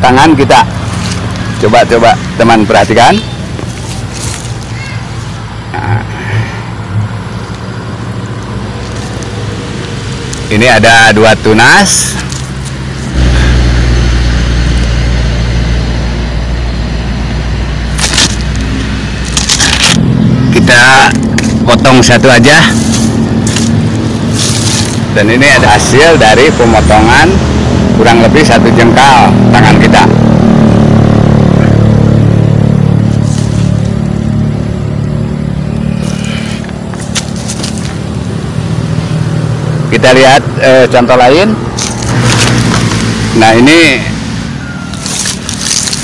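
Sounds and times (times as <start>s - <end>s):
low engine drone: 0.0s - 46.0s.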